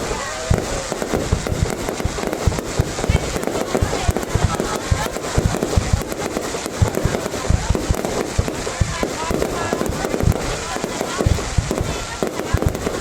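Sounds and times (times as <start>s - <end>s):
fireworks booming and cracking: 0.0s - 13.0s.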